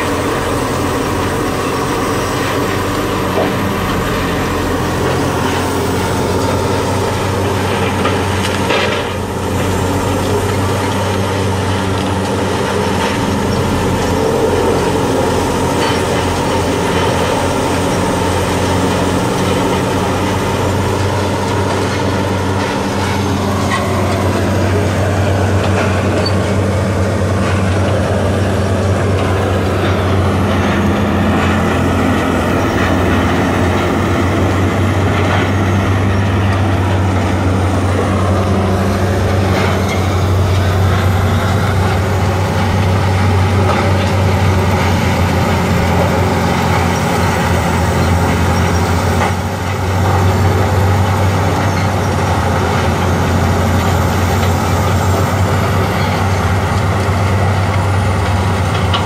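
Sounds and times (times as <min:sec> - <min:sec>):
heavy diesel machinery drone: 0:00.0 - 0:59.0.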